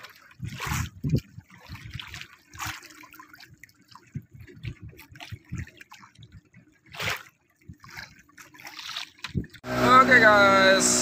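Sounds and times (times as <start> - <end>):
water lapping against hull: 0.0 - 11.0
water splashes: 0.0 - 11.0.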